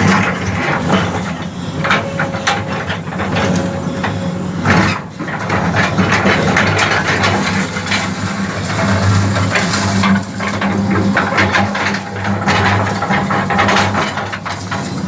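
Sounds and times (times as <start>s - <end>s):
bulldozer diesel engine running: 0.0s - 15.0s
sharp metallic knocks and clanks: 0.0s - 15.0s.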